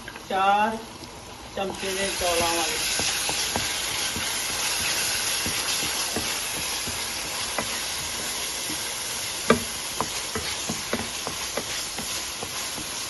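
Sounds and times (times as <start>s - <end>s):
spices sizzling in a frying pan: 0.0s - 13.0s
wooden spatula scraping and tapping pan: 1.6s - 13.0s.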